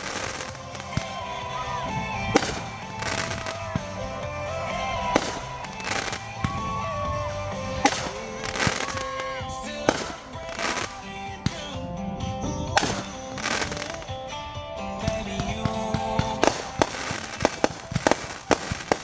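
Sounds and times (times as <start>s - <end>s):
fireworks bangs: 0.0s - 19.0s
song playing in background: 0.0s - 19.0s.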